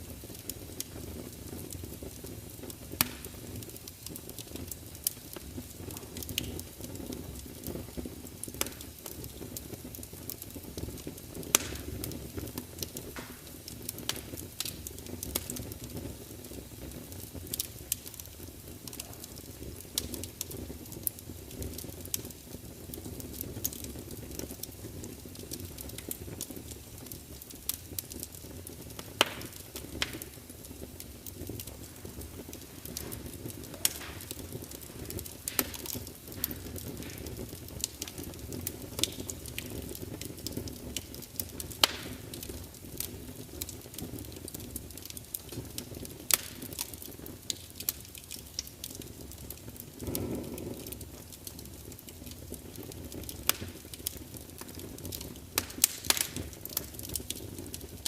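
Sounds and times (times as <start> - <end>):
log fire crackling and popping: 0.0 - 58.0.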